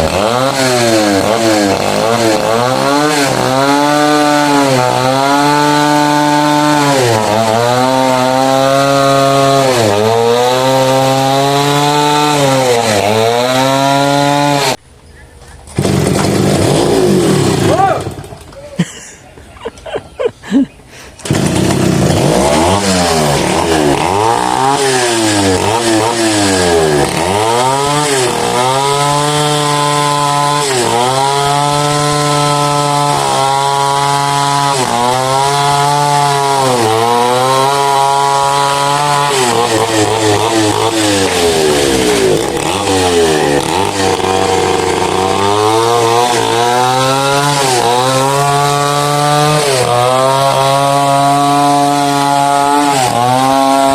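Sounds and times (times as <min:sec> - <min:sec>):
chainsaw cutting wood: 0:00.0 - 0:14.8, 0:15.7 - 0:19.0, 0:21.0 - 0:53.9.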